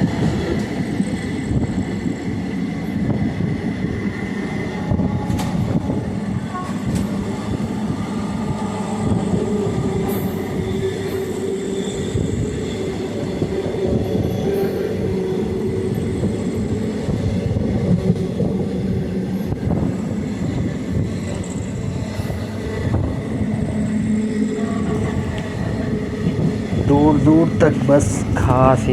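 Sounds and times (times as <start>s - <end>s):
train wheels rumbling on track: 0.0s - 28.9s.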